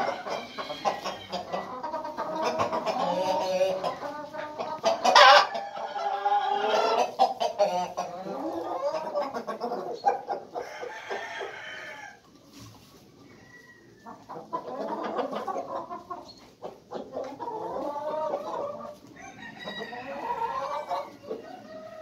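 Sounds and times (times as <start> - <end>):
chickens clucking and calling: 0.0 - 22.0.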